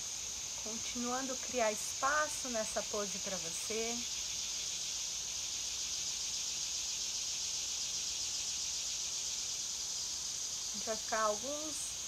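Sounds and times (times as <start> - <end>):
insect chorus shrilling: 0.0 - 12.0.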